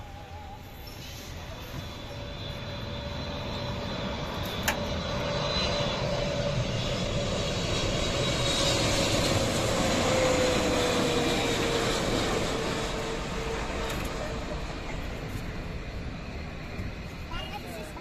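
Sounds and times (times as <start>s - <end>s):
jet airliner passing low: 0.0s - 18.0s.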